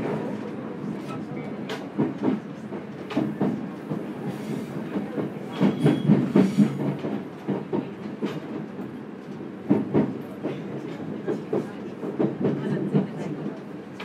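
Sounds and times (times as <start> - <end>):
railcar rumble: 0.0 - 14.0.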